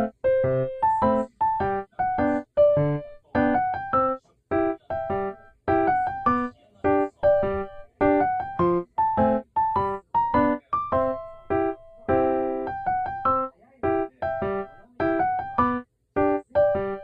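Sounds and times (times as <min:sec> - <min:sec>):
bouncy keyboard chords: 0:00.0 - 0:17.0.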